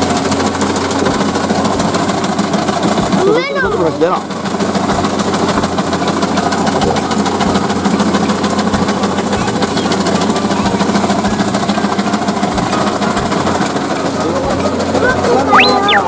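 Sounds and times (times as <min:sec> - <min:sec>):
steady mechanical hum: 0:00.0 - 0:16.0
faint voices: 0:03.0 - 0:16.0.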